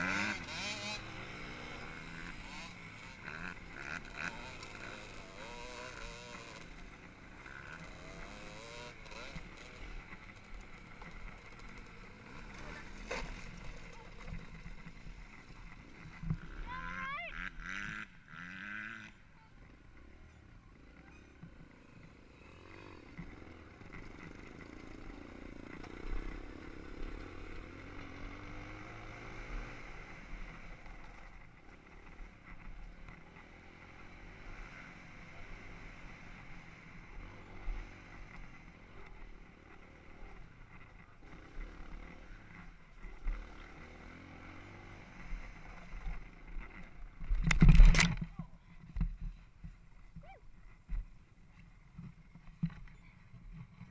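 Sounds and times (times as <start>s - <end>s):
dirt bike engine revving: 0.0s - 20.0s, 20.7s - 48.4s.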